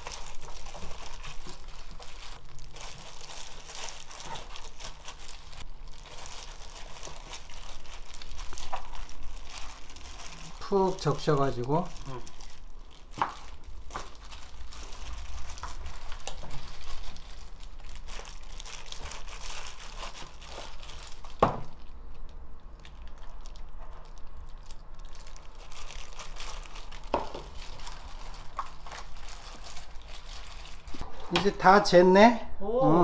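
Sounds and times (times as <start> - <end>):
plastic gloves crinkling: 0.0 - 31.7.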